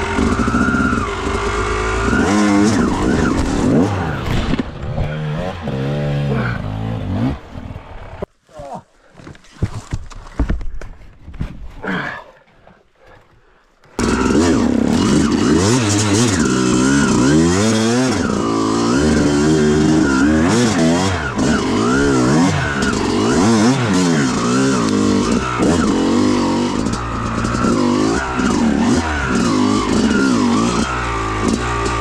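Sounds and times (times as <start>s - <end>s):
dirt bike engine revving: 0.0s - 8.3s, 14.0s - 32.0s.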